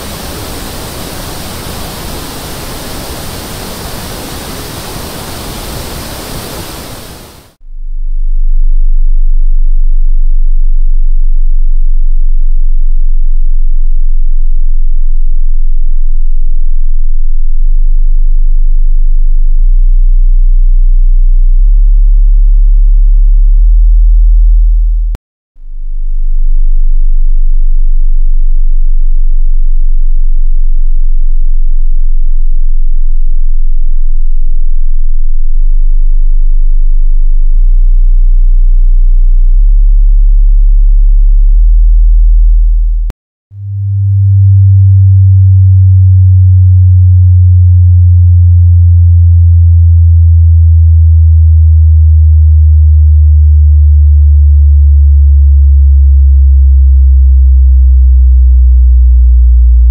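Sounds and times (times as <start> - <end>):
low sine-wave test tones: 0.0 - 59.9.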